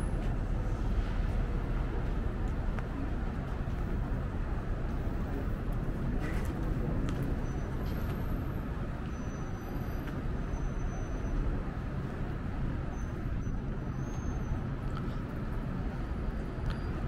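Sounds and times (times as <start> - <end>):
rumble of passing vehicles: 0.0 - 17.0.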